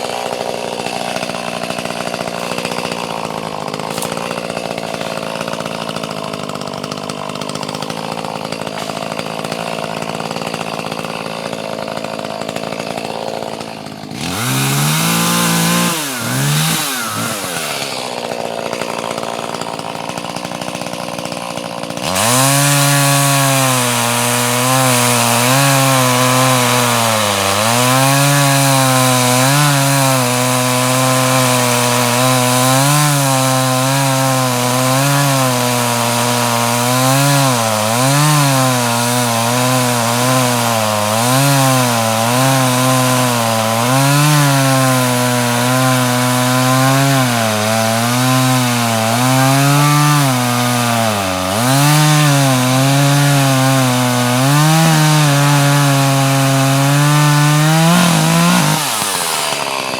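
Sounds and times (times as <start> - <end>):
chainsaw cutting through logs: 0.0 - 59.9.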